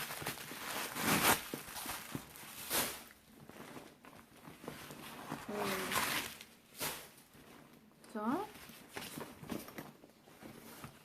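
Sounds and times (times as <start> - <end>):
paper and plastic crinkling: 0.0 - 11.0.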